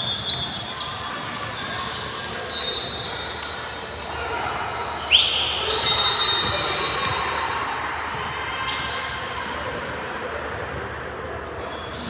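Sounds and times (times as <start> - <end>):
sneakers squeaking: 0.0 - 10.8, 11.6 - 12.0
echoing murmur of hall: 0.0 - 12.0.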